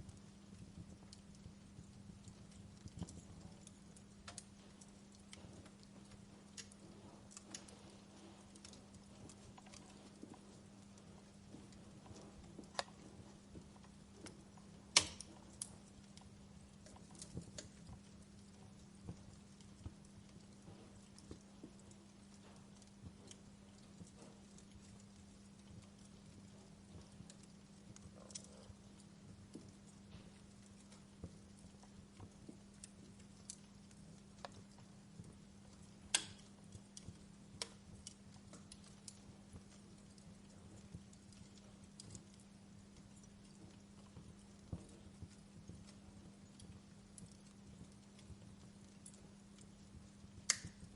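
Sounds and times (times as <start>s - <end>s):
faint steady hum: 0.0s - 50.9s
wood fire crackling and popping: 0.0s - 50.9s.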